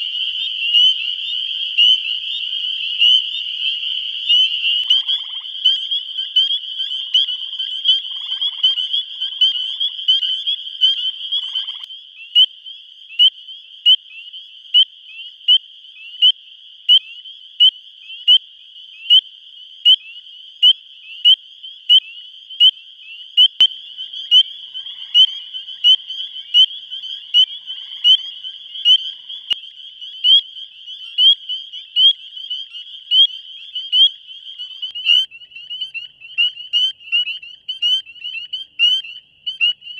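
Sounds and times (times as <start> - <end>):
loud frog peeps: 0.0 - 18.4, 19.0 - 39.9
chorus of peepers: 0.0 - 39.9.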